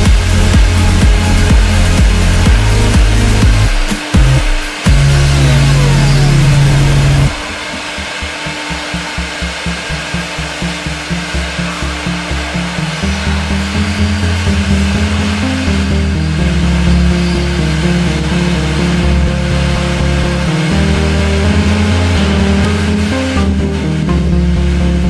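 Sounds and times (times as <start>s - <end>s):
electronic dance music: 0.0s - 25.0s.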